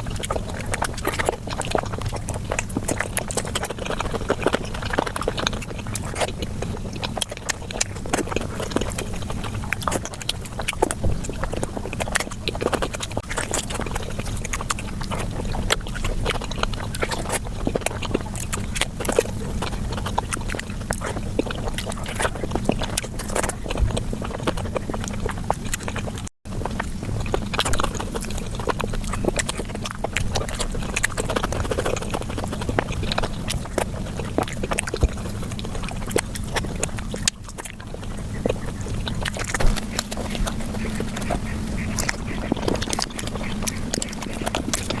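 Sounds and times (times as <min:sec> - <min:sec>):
lip smacking: 0:00.0 - 0:45.0
mouth clicks: 0:00.0 - 0:45.0
wet chewing: 0:00.0 - 0:45.0.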